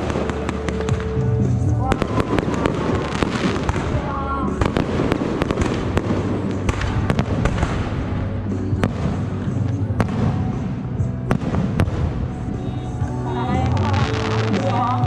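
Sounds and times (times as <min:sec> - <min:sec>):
firework bangs: 0:00.0 - 0:15.0
firework crackle: 0:00.0 - 0:15.0.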